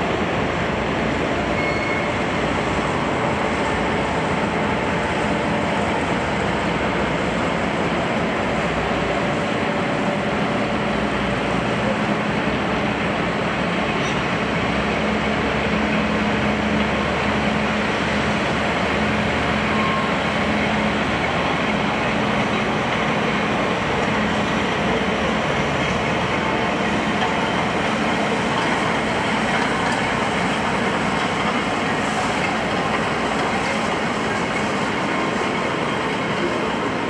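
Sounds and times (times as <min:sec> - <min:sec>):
train rolling on rails: 0:00.0 - 0:37.0.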